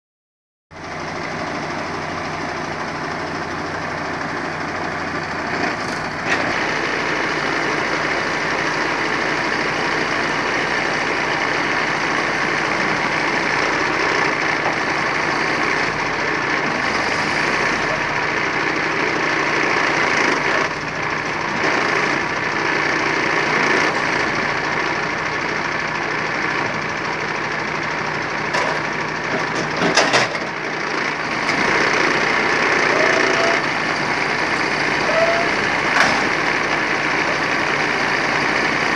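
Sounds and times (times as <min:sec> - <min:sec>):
truck diesel engine running: 0:00.7 - 0:38.9
hydraulic crane working: 0:00.8 - 0:38.9.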